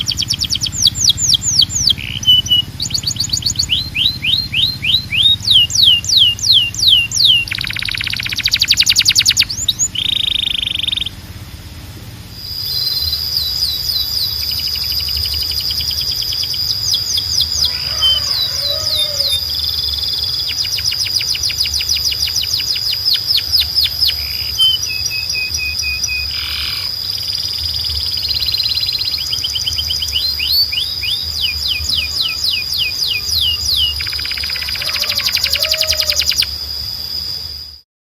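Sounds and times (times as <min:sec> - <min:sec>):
canary singing: 0:00.0 - 0:11.5, 0:12.2 - 0:37.8
low steady hum: 0:00.0 - 0:37.8.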